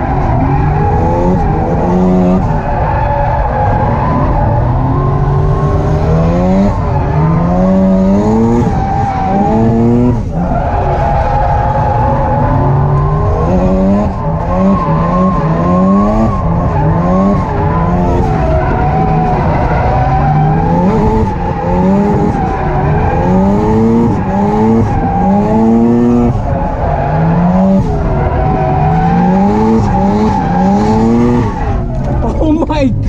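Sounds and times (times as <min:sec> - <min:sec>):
engine revving hard: 0:00.0 - 0:02.6, 0:03.7 - 0:10.3, 0:11.8 - 0:31.6
tire squeal: 0:00.0 - 0:32.4.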